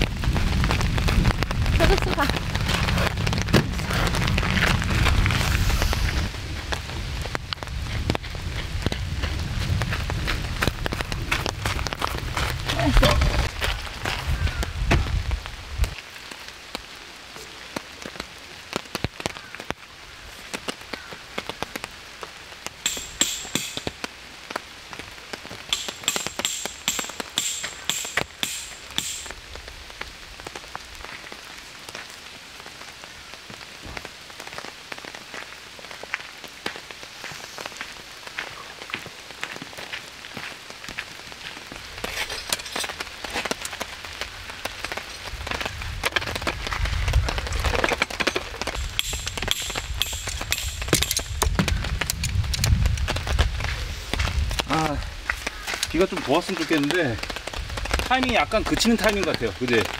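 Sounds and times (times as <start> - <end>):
heavy rain hiss: 0.0 - 59.9
raindrops ticking on a surface: 0.0 - 59.9.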